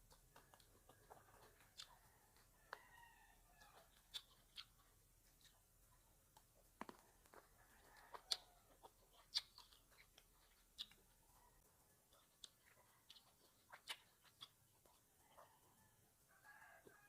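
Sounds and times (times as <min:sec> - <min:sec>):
chewing grapes: 0:00.0 - 0:17.0.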